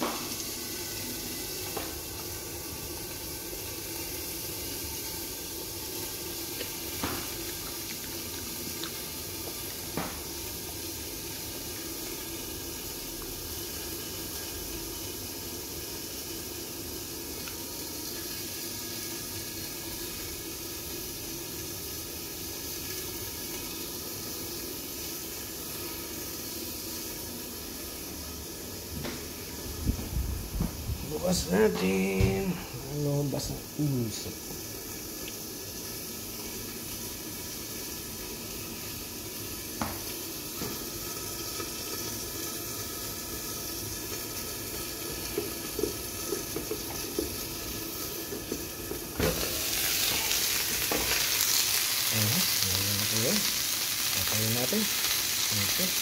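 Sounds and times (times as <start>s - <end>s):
oven hiss with faint hum: 0.0s - 56.0s.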